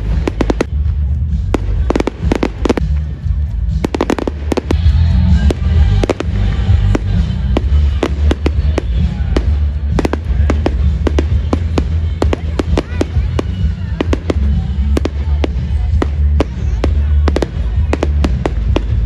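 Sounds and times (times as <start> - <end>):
fireworks bangs and crackles: 0.0 - 19.0
low rumble: 0.0 - 19.0
music playing: 0.0 - 19.0.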